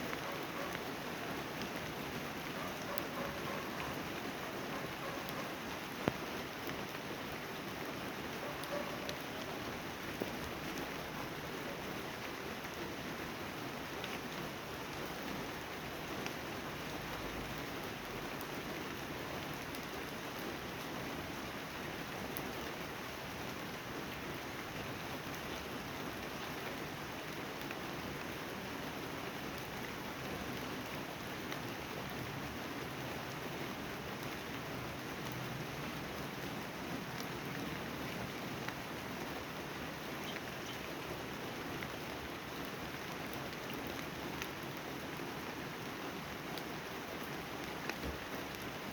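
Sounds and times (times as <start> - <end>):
raindrops ticking on surfaces: 0.0 - 48.9
steady rain hiss: 0.0 - 48.9.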